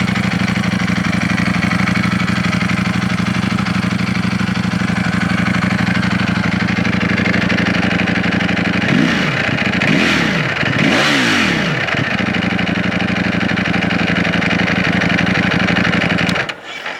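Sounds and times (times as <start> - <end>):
motorcycle engine idling and revving: 0.0 - 16.6.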